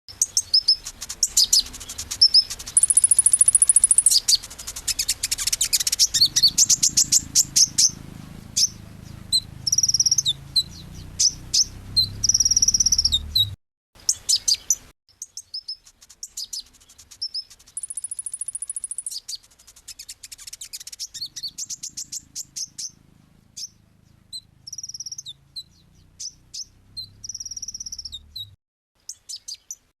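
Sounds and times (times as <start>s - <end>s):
sunbird twittering song: 0.1s - 29.9s.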